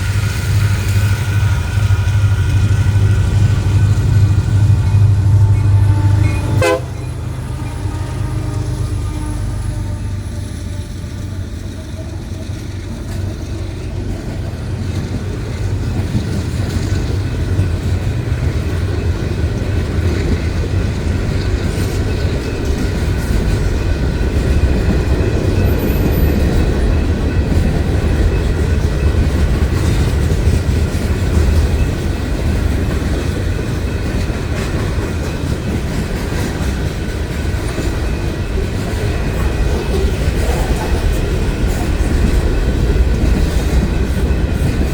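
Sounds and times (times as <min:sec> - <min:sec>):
train rumbling past: 0:00.0 - 0:44.9
wheels clicking over rail joints: 0:00.0 - 0:44.9.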